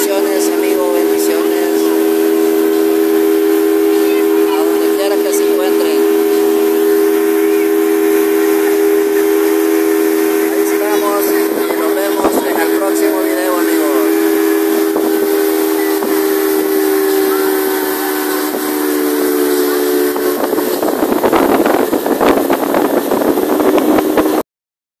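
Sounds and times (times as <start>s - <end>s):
outboard motor whining: 0.0s - 24.4s
rush of wind and water: 0.0s - 24.4s.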